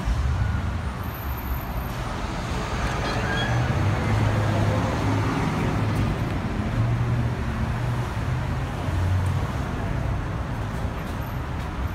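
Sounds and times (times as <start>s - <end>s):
city street traffic: 0.0s - 11.9s.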